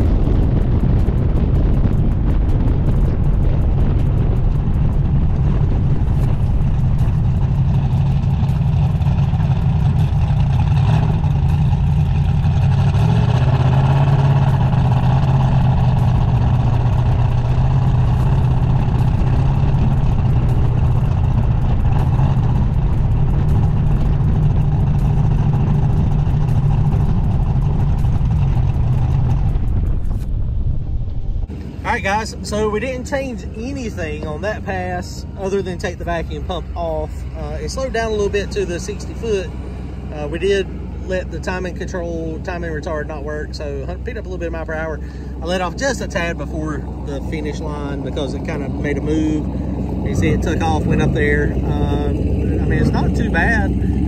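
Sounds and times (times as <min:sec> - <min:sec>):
car engine deep drone: 0:00.0 - 0:54.0.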